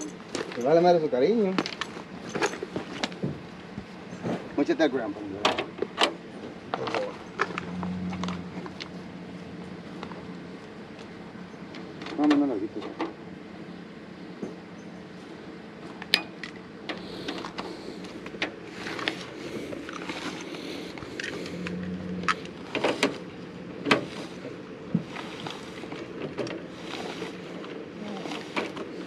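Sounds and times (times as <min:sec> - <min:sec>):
engine hum: 0:00.0 - 0:29.0.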